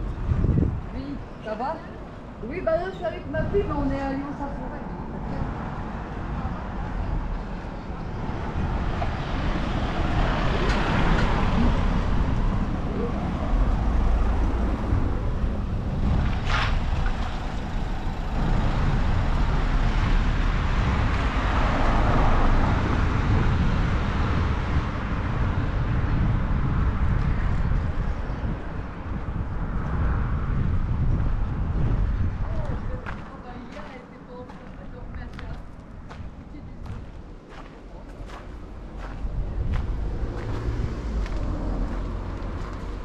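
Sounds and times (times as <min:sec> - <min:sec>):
car passing: 0:00.0 - 0:43.0
low traffic rumble: 0:00.0 - 0:43.0.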